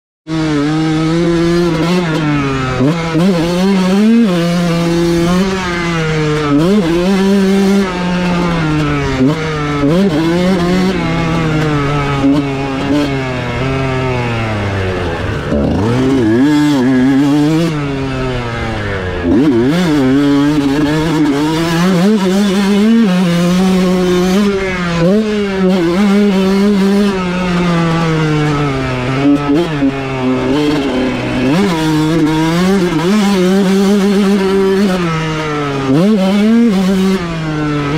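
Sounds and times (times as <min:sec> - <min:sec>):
motorbike engine revving: 0:00.3 - 0:37.9.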